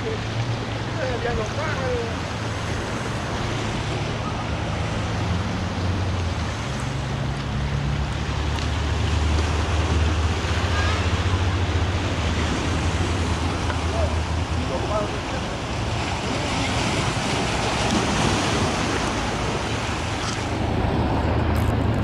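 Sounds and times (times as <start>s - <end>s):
sea surf: 0.0s - 22.0s
wind on microphone: 2.1s - 22.0s.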